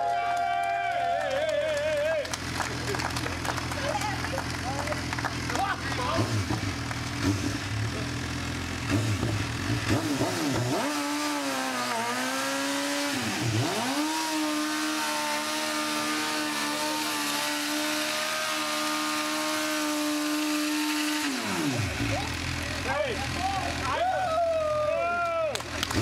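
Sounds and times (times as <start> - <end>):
motorcycle engine revving high: 1.7 - 26.0
rear tyre spinning: 1.8 - 26.0.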